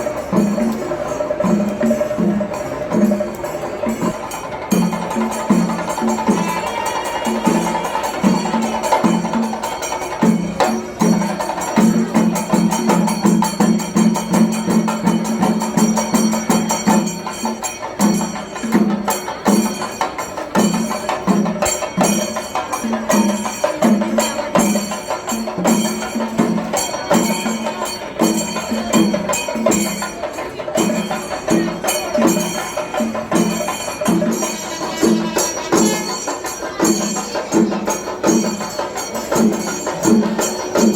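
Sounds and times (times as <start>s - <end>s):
clashing cymbals: 0.0s - 40.9s
drums struck with sticks: 0.0s - 40.9s.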